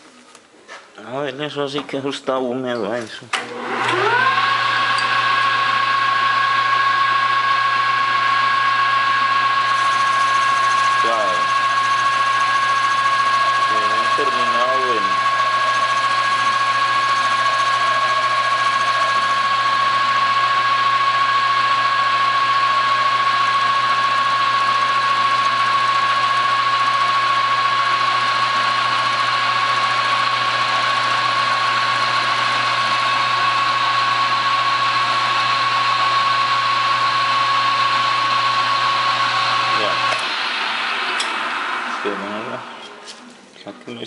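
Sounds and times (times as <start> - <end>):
metal lathe whining: 3.4 - 43.4.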